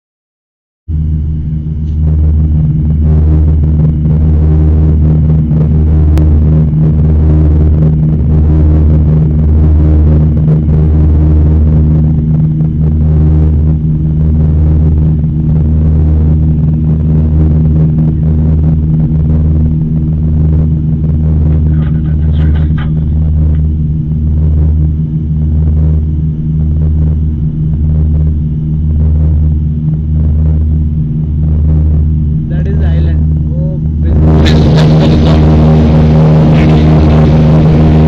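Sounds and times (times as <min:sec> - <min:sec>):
propeller engines droning in cabin: 0:00.9 - 0:38.0.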